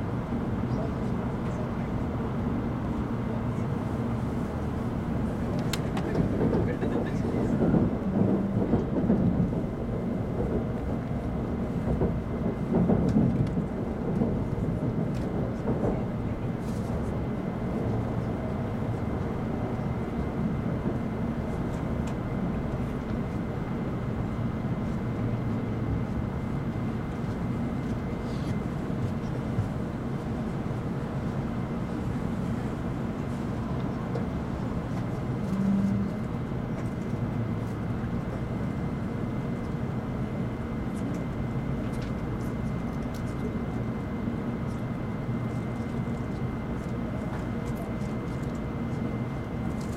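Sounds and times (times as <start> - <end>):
train cabin rumble: 0.0 - 49.9.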